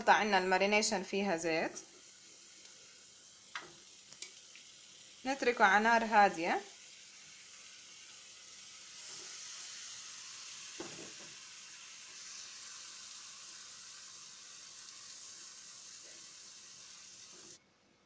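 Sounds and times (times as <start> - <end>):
chicken sizzling in a frying pan: 1.4 - 17.6.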